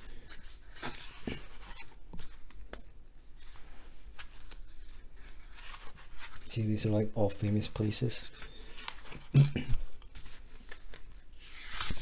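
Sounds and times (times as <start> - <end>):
book pages being turned: 0.0 - 12.0.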